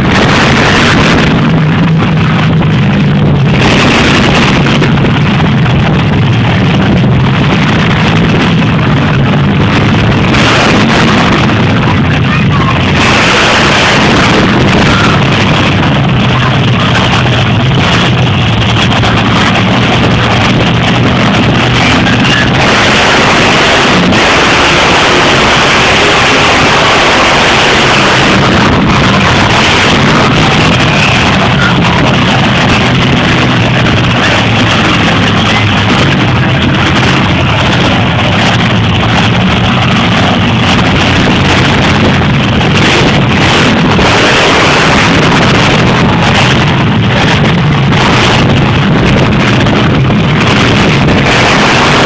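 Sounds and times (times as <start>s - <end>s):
monster truck engine running: 0.0s - 52.0s.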